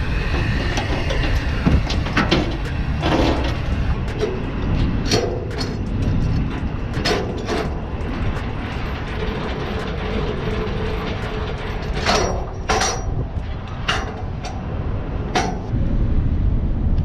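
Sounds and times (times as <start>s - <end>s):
truck engine rumbling: 0.0s - 16.9s
metallic clanks and rattles: 0.2s - 15.7s.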